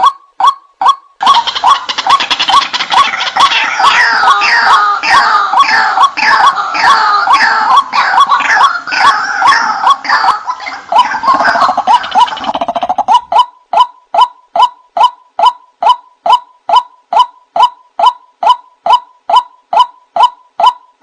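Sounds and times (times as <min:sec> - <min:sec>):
harsh waterhen calls: 0:01.2 - 0:20.7.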